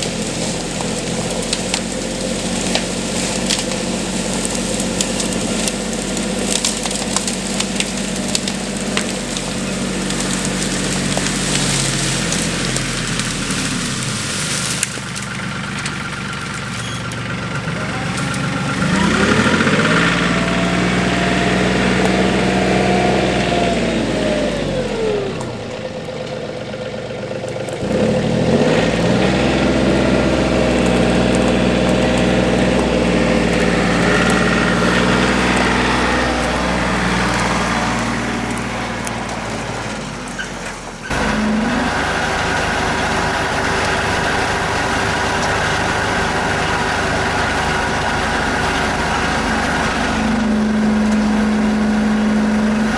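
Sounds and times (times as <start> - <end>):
tractor engine revving: 0.0 - 52.9.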